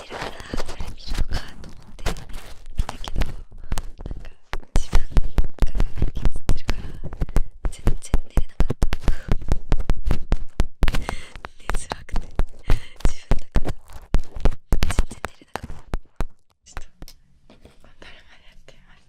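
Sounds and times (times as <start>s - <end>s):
deep thumps: 0.0s - 16.4s
tapping and scratching on wood: 0.0s - 17.7s.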